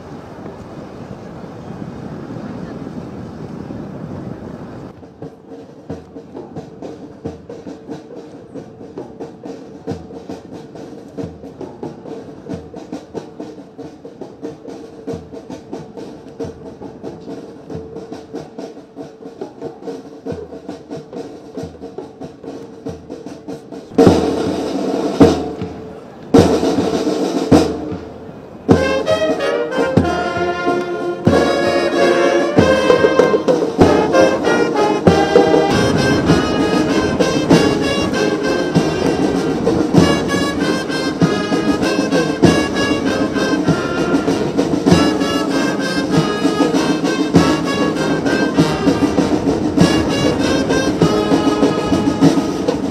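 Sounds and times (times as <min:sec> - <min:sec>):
military brass band playing: 0:04.9 - 0:52.9
steady drum beat: 0:04.9 - 0:52.9.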